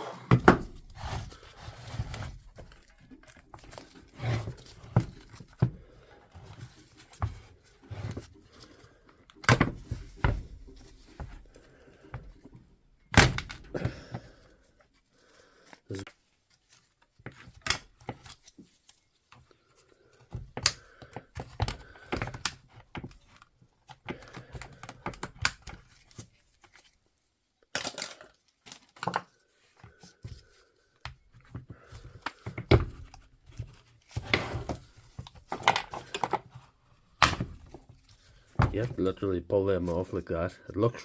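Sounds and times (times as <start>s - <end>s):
hands handling plastic parts: 0.2s - 41.0s.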